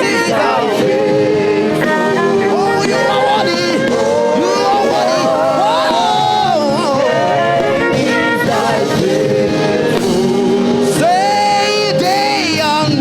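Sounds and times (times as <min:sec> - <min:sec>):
choir singing gospel: 0:00.0 - 0:13.0
live backing music: 0:00.0 - 0:13.0.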